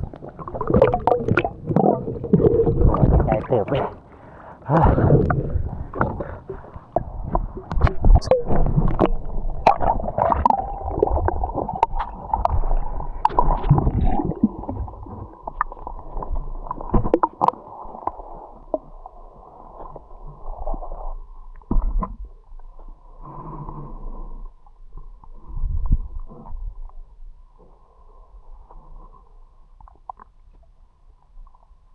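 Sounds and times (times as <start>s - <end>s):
underwater bubbling and gurgling: 0.0s - 31.9s.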